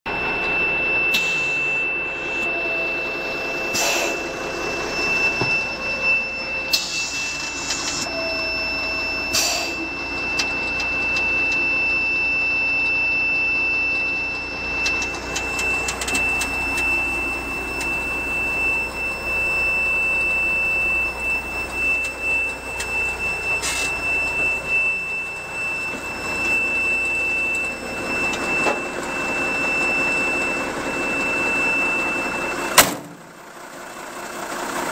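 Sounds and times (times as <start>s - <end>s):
steady high-pitched tone: 0.1s - 32.8s.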